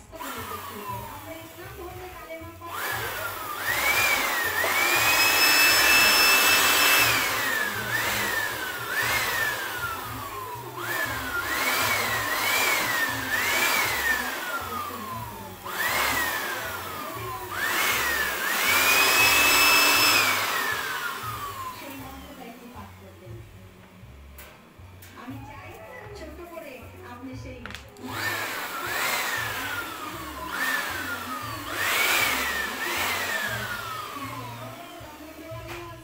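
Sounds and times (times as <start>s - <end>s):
electric air blower whine: 0.0s - 36.0s.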